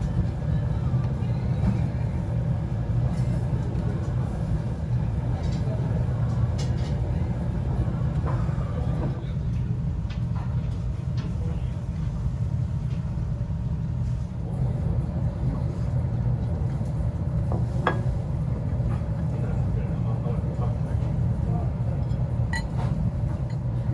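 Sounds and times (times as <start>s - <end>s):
low ventilation hum: 0.0s - 23.9s.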